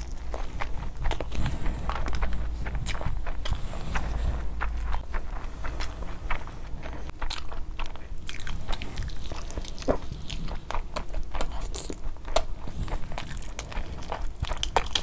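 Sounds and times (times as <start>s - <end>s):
biting and chewing meat: 0.0s - 15.0s.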